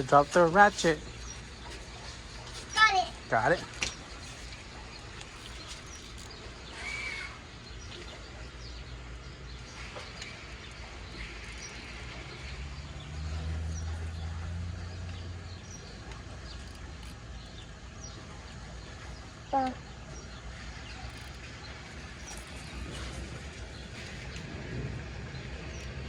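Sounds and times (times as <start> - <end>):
birds chirping: 0.0 - 26.0
low outdoor background: 0.0 - 26.0.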